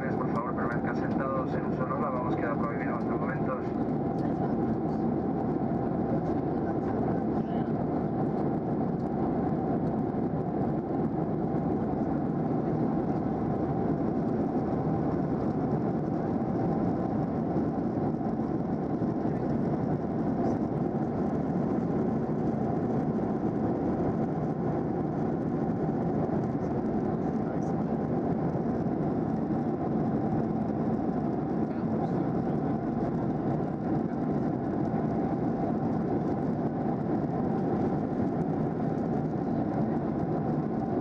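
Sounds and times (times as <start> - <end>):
airplane cabin noise: 0.0 - 41.0.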